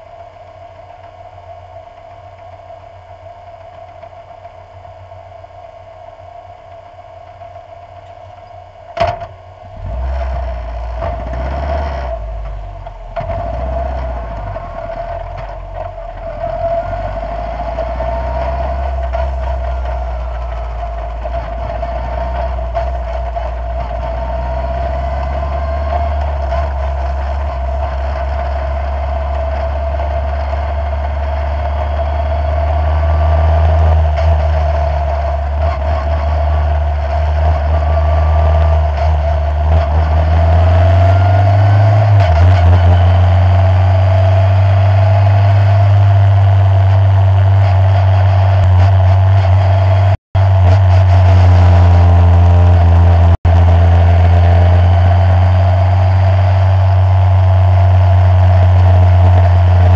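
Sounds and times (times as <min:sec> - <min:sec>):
race car engine running: 0:00.0 - 0:59.9.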